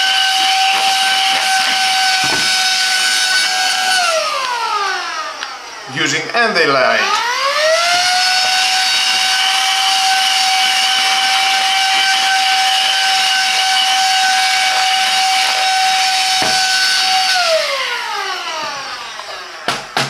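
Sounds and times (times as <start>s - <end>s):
handheld vacuum cleaner motor whine: 0.0s - 20.0s.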